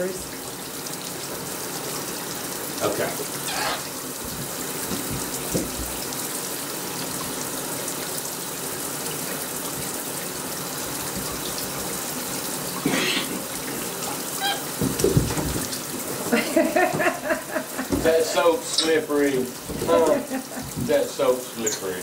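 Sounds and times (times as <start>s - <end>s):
shower water spraying into bathtub: 0.0s - 22.0s.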